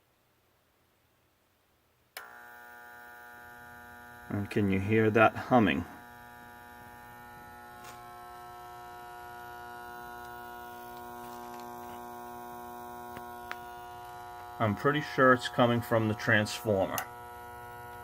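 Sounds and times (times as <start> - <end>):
electrical hum: 2.1 - 18.0.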